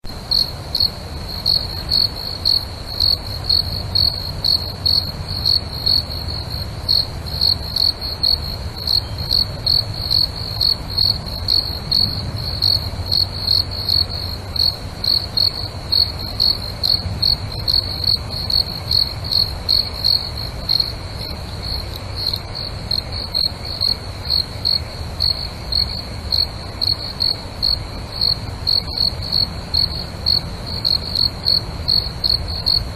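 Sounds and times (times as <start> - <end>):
crickets chirping: 0.0 - 32.9.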